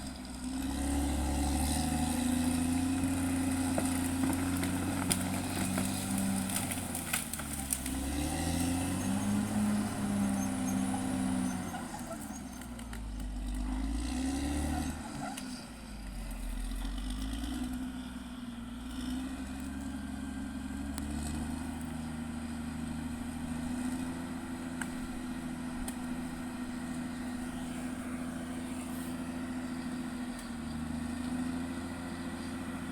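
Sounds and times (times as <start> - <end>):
bulldozer diesel engine working: 0.0 - 32.9.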